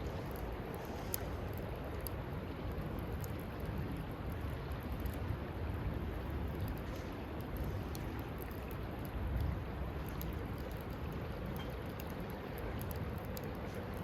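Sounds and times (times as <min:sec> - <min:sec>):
campfire burning: 0:00.0 - 0:14.0
sharp crackles: 0:00.0 - 0:14.0.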